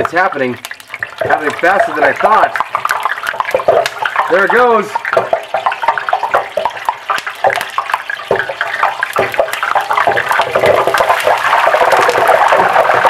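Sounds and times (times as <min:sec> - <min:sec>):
hot oil bubbling and crackling: 0:00.0 - 0:13.0.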